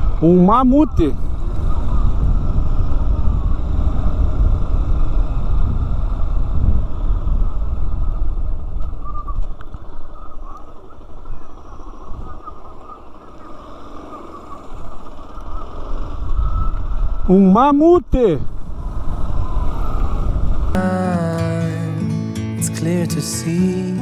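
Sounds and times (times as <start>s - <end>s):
wind buffeting microphone: 0.0s - 20.8s
road rumble: 0.0s - 22.0s.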